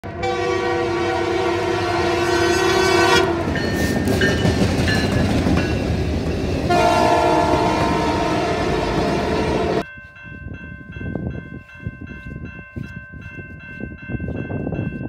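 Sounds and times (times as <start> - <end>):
wind noise: 1.0 - 15.0
train wheels rumbling on rails: 1.4 - 15.0.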